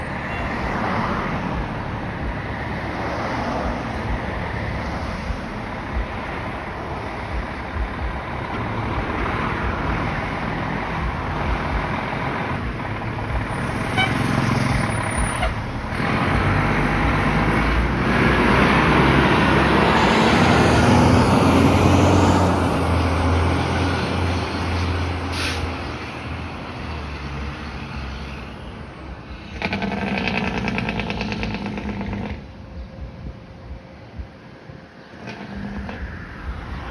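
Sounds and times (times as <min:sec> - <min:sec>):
fire engine diesel engine running: 0:00.0 - 0:36.9.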